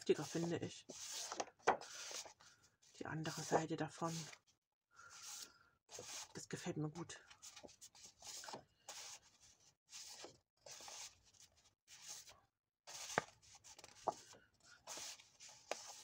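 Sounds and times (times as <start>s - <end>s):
paper rustling and sliding: 0.2s - 2.4s, 3.3s - 4.4s, 5.1s - 6.4s, 7.4s - 16.0s.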